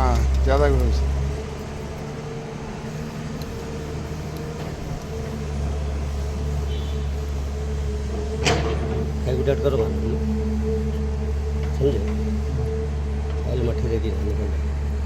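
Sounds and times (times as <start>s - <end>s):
machine engine hum: 0.0s - 15.0s.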